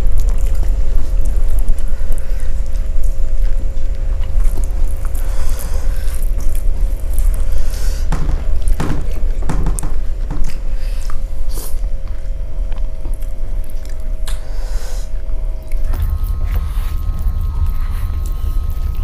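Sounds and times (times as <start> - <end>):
wet chewing clicks and smacks: 0.0 - 14.5, 15.2 - 19.0
steady low hum: 0.0 - 19.0.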